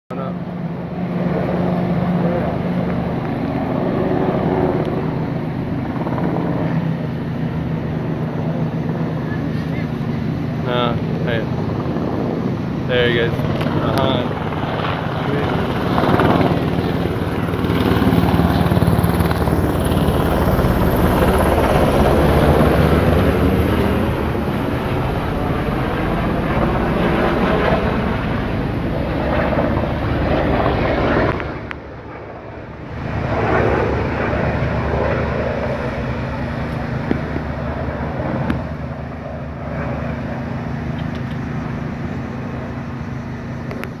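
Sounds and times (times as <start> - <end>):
helicopter rotor beating: 0.1 - 44.0.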